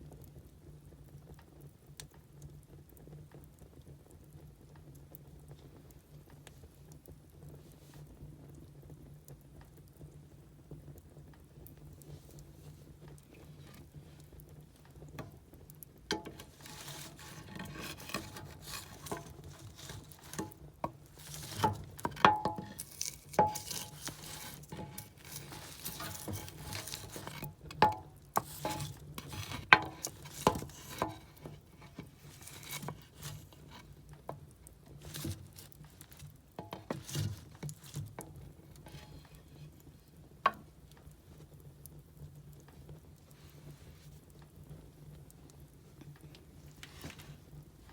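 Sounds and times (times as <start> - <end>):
firewood crackling and popping: 0.0 - 47.9.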